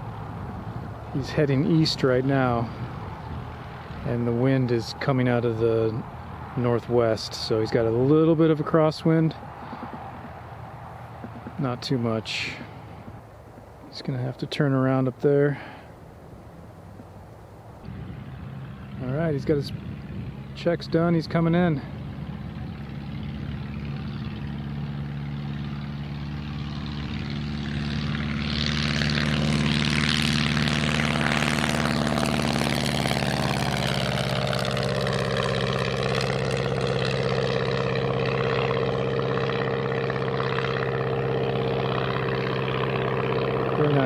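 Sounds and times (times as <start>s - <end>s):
propeller plane engine: 0.0s - 44.0s.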